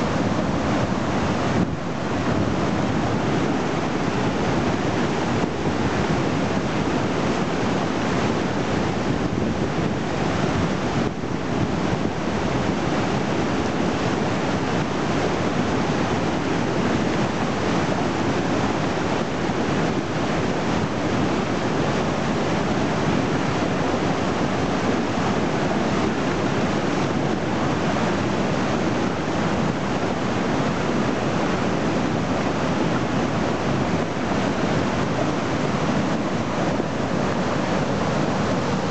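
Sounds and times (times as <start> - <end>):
river water rushing through rapids: 0.0 - 38.9.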